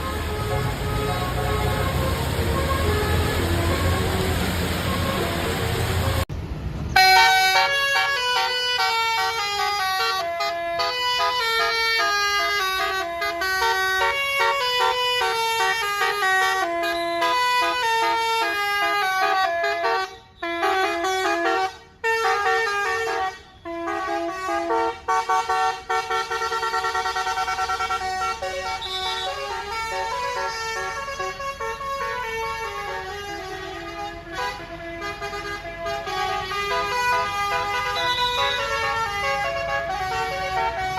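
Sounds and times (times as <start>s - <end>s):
multi-tone bus horn melody: 0.0s - 6.3s, 7.0s - 40.9s.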